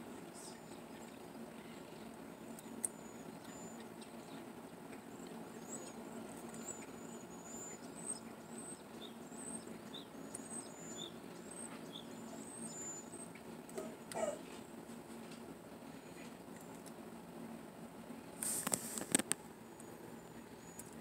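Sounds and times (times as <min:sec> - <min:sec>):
small birds chirping: 0:00.0 - 0:14.8, 0:18.6 - 0:21.0
steady low hum: 0:00.0 - 0:21.0.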